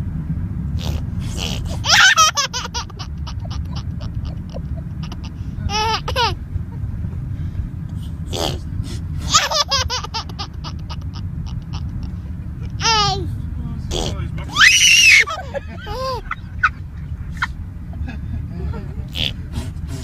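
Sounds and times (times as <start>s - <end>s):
car cabin rumble: 0.0s - 20.0s
baby giggling: 0.8s - 6.5s, 8.3s - 13.3s, 13.9s - 20.0s.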